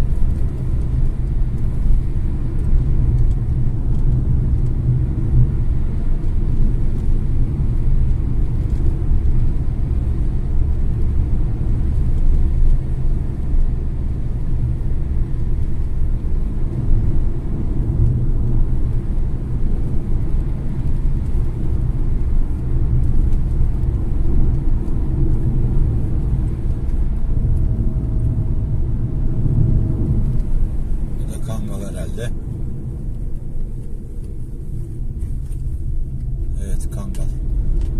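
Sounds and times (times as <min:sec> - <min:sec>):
car engine and tyre noise: 0:00.0 - 0:37.9.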